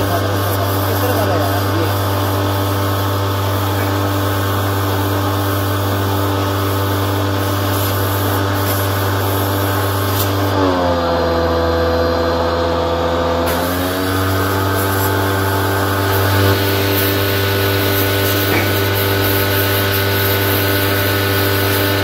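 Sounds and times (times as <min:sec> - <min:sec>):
water jet hissing: 0:00.0 - 0:10.6, 0:13.5 - 0:22.0
pressure washer motor humming: 0:00.0 - 0:22.0.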